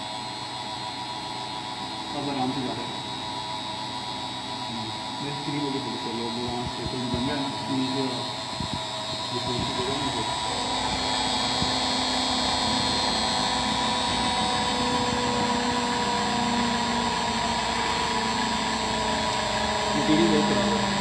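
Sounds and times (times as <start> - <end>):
engraving machine spindle whine: 0.0 - 21.0.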